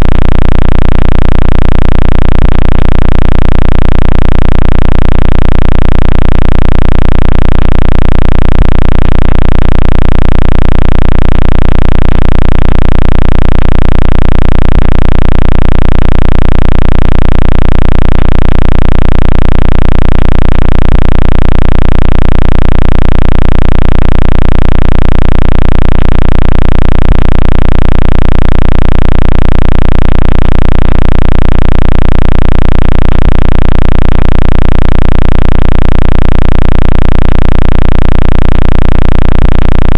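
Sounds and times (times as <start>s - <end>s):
pulsing distorted bass tone: 0.0s - 39.9s.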